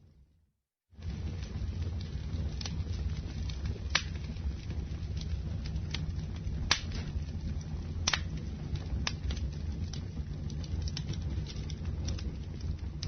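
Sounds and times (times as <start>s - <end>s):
campfire flames rumbling: 0.9s - 13.0s
wood crackling and popping: 1.0s - 13.0s.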